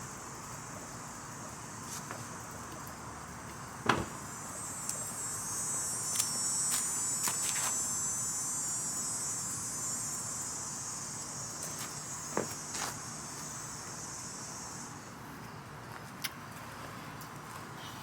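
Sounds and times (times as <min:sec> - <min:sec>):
high-pitched insect chorus: 0:00.0 - 0:15.8.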